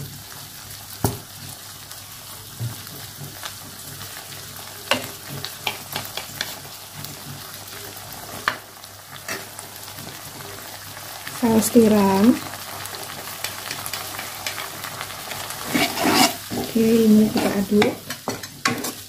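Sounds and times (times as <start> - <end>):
green beans sizzling in a wok: 0.0 - 19.0.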